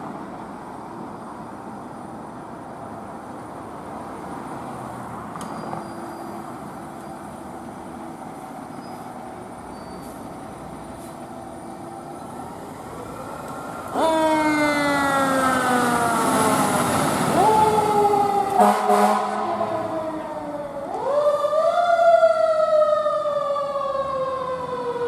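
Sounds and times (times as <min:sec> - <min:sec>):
heavy vehicle rumbling: 0:00.0 - 0:21.1.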